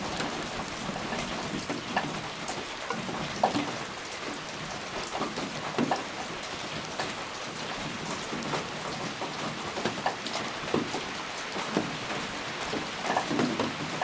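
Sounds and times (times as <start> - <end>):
raindrops striking close by: 0.0 - 14.0
steady rain hiss: 0.0 - 14.0.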